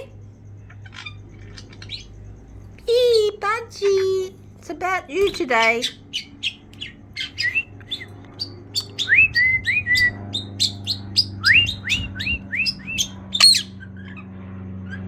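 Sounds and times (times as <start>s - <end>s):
budgerigar chattering: 0.0s - 13.8s.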